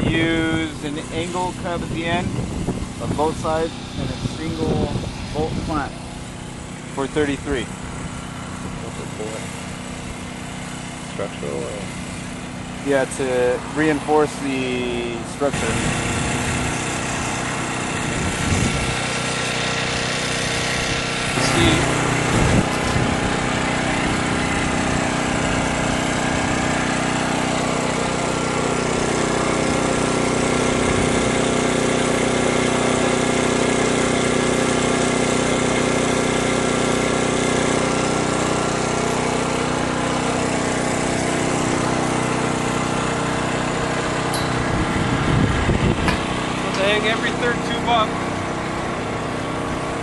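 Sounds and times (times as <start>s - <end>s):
small engine running: 0.0s - 50.0s.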